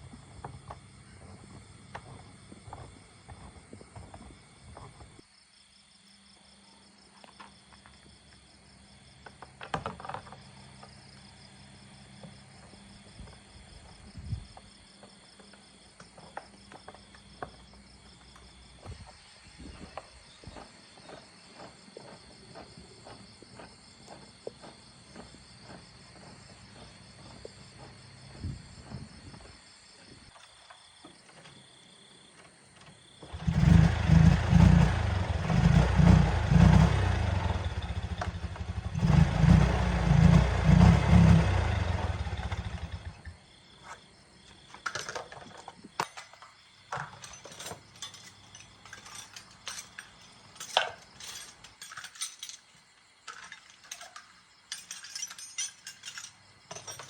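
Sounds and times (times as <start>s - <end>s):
faint insect chirping: 0.0s - 33.4s, 41.8s - 57.0s.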